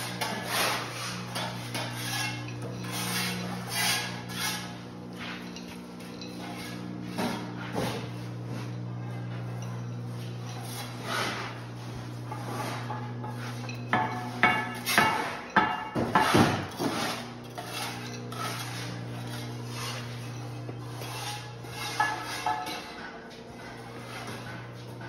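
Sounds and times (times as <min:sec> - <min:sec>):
trowels scraping and tapping brick: 0:00.0 - 0:07.9, 0:09.4 - 0:24.7
steady low hum: 0:00.0 - 0:25.0.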